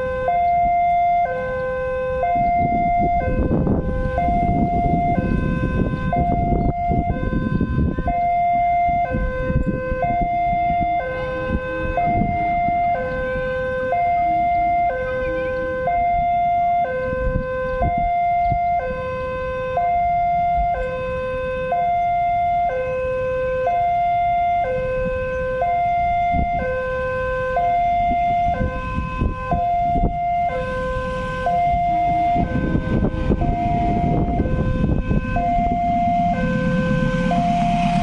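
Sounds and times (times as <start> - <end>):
level crossing two-tone alarm: 0.0 - 38.0.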